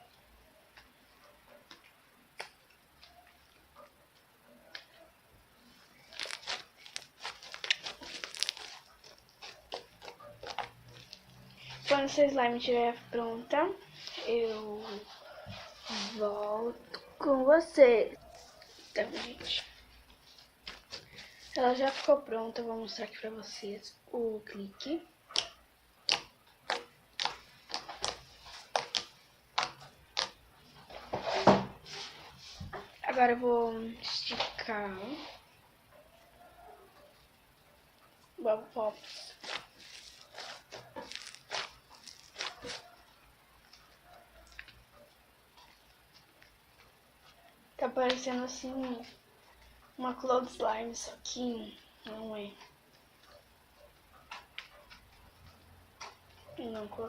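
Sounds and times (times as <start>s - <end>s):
slime kneaded by hand crackling: 1.6s - 3.7s, 4.6s - 22.7s, 24.2s - 30.9s, 38.2s - 57.0s.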